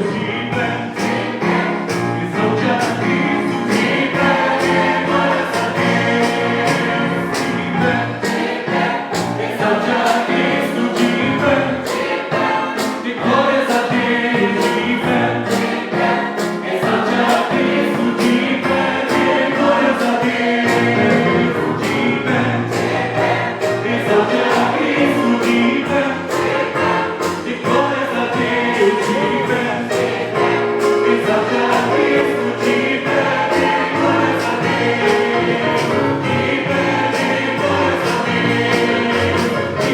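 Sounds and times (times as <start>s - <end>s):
church choir singing: 0.0s - 39.9s
keyboard accompaniment: 0.0s - 39.9s.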